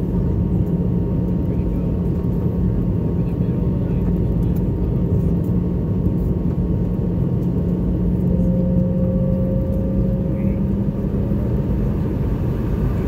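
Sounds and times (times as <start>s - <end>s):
jet engines humming: 0.0s - 13.0s.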